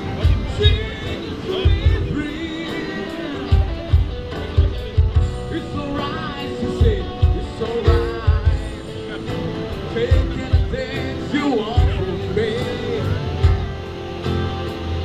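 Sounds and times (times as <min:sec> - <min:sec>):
pop song with singer: 0:00.0 - 0:15.0.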